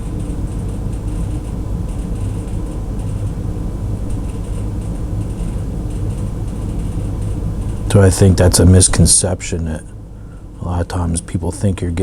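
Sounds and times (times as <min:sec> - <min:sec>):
low rumble of background noise: 0:00.0 - 0:12.0.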